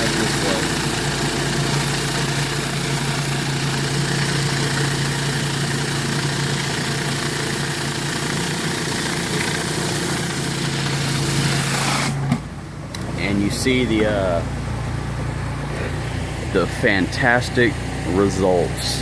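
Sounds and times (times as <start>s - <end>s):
pressure washer engine hum: 0.0s - 19.0s.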